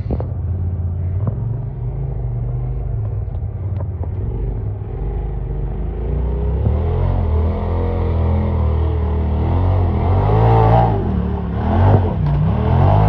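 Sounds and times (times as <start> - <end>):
utility vehicle engine under load: 0.0 - 13.0.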